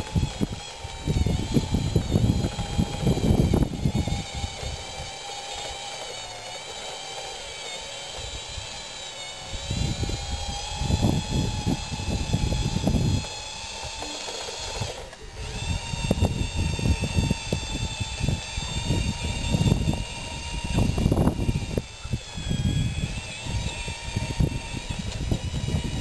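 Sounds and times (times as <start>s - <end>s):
toy bulldozer motors whining: 0.0s - 26.0s.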